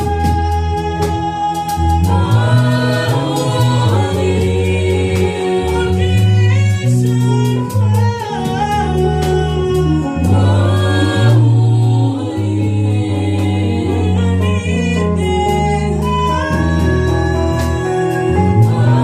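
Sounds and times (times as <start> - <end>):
gospel band playing: 0.0 - 19.0
voices singing: 0.0 - 19.0.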